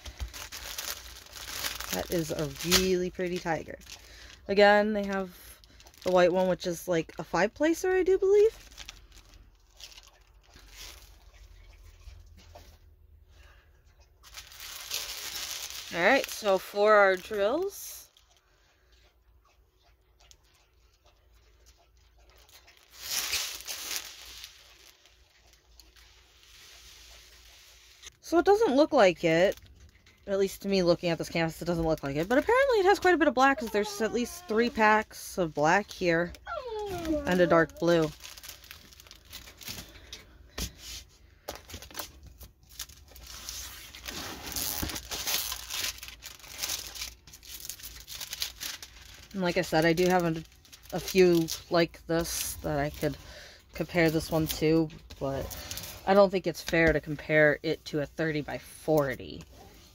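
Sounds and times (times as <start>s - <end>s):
plastic bags crinkling: 0.0s - 12.0s, 14.2s - 18.2s, 22.3s - 57.2s.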